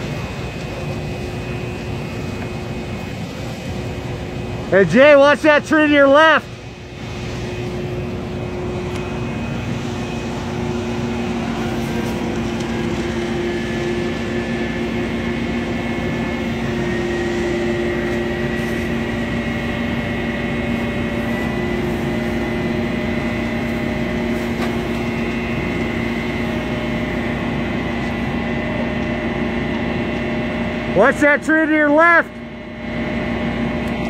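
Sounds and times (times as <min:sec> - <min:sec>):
fire engine pump humming: 0:00.0 - 0:34.0.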